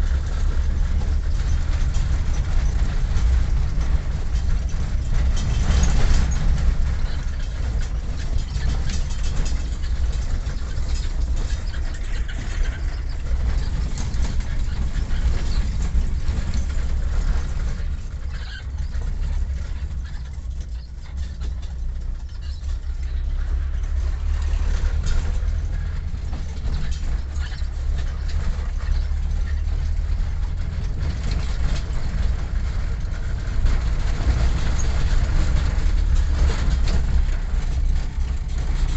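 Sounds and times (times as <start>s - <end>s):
vehicle engine and tyre rumble: 0.0s - 38.9s.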